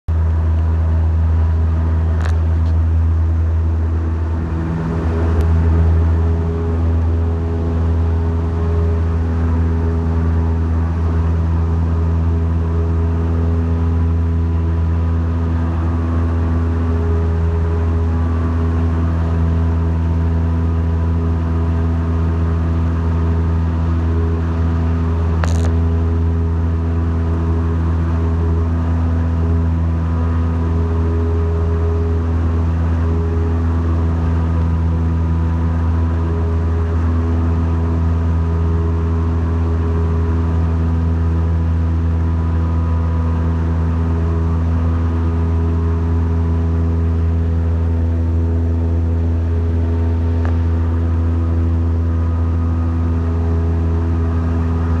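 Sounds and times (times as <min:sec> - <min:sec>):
aircraft engine and propeller drone: 0:00.1 - 0:55.0.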